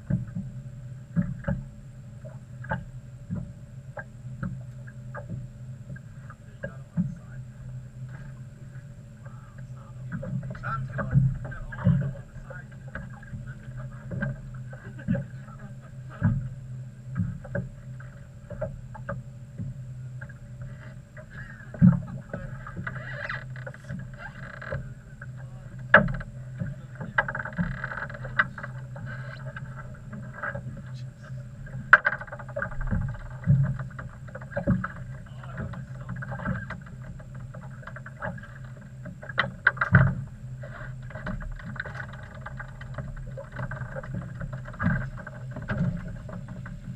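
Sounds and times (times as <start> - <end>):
knocks and taps on hull: 0.0 - 0.5, 1.1 - 7.3, 9.2 - 46.9
steady low hum: 0.0 - 46.9.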